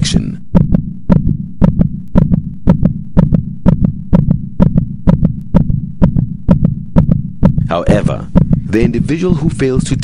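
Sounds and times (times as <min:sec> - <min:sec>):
heartbeat thumps: 0:00.0 - 0:10.0
steady low hum: 0:00.0 - 0:10.0.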